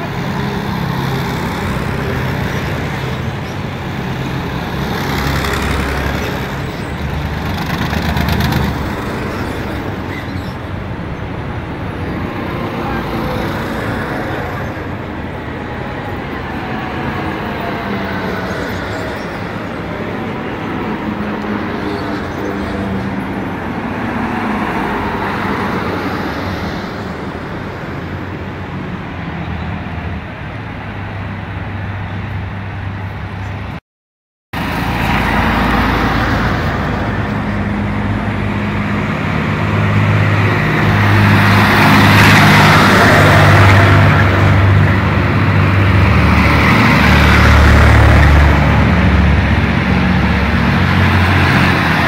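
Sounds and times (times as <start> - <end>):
traffic engines droning: 0.0 - 33.8, 34.6 - 52.0.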